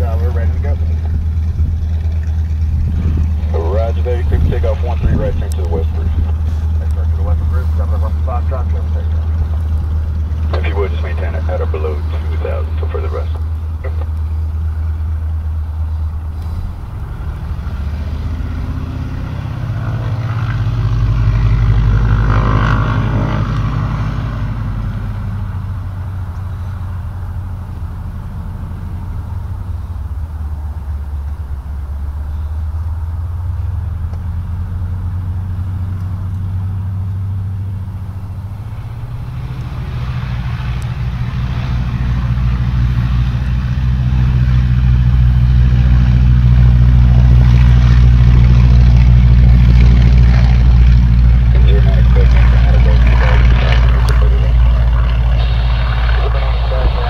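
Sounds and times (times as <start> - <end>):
radial aircraft engine running: 0.0 - 57.0.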